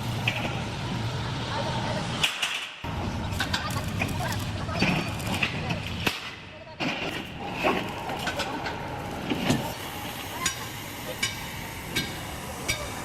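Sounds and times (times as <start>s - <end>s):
workshop noise: 0.0s - 13.0s.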